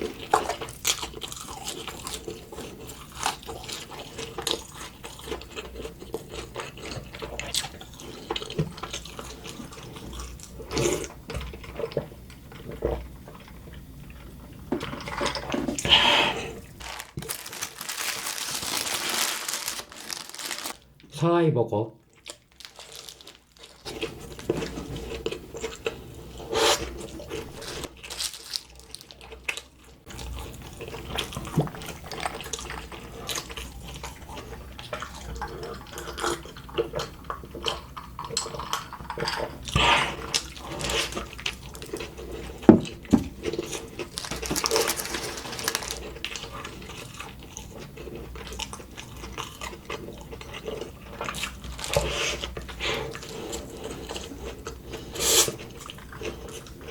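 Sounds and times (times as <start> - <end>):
person chewing and biting: 0.0 - 12.0, 16.5 - 20.8, 22.1 - 56.9.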